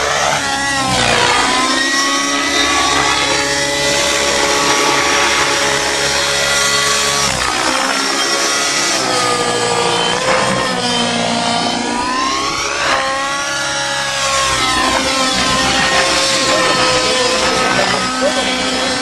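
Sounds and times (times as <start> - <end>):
model helicopter motor and rotor whine: 0.0 - 19.0.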